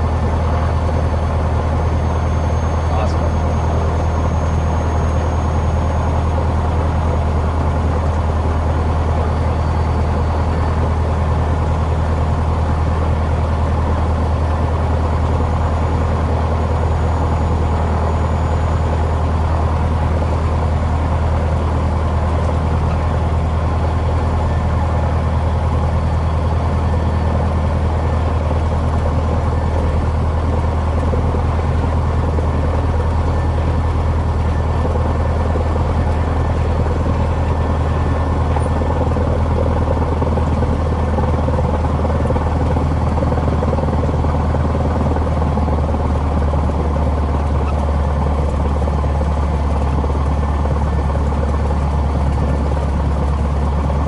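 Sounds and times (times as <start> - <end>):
aircraft engine and propeller: 0.0 - 54.0.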